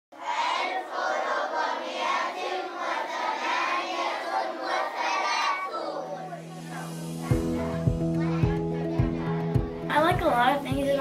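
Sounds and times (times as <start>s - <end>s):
children chattering and calling: 0.2s - 11.0s.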